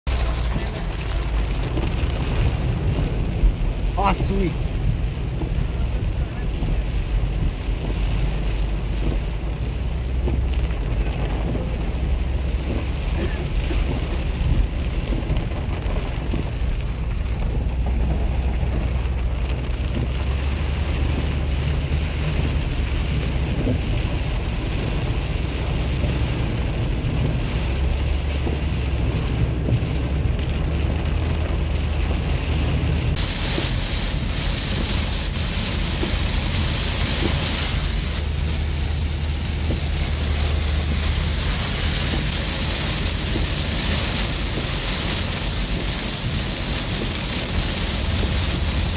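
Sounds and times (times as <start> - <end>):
heavy rain on a car: 0.0 - 48.9
road noise rumble: 0.0 - 48.9.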